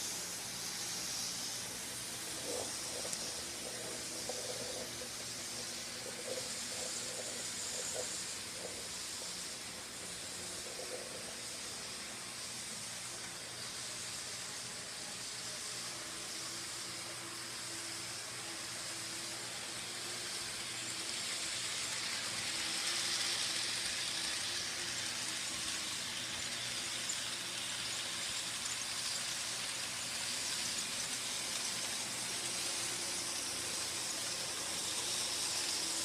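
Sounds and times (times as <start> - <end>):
model trains whirring on track: 0.0 - 36.0.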